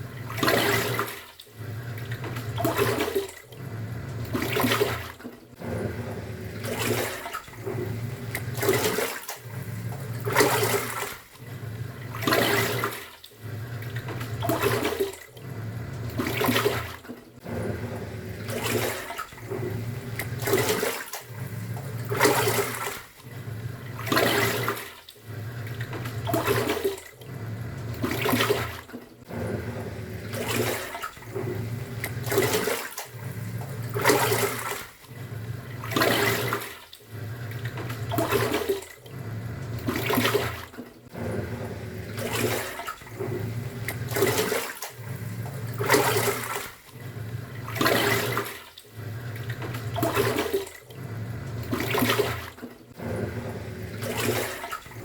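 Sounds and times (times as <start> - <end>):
washing machine motor hum: 0.0 - 55.0
water churning and sloshing: 0.0 - 55.0.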